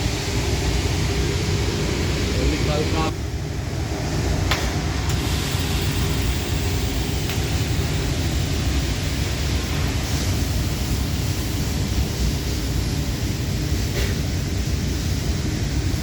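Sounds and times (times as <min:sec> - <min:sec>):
arc welding hiss and rumble: 0:00.0 - 0:16.0.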